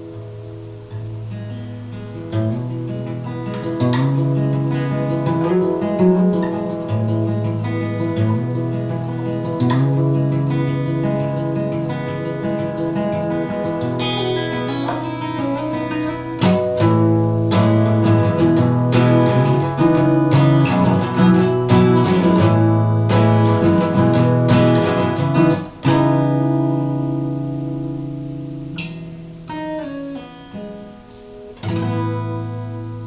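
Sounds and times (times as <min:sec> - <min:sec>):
acoustic guitar strumming chords: 0:00.0 - 0:33.0.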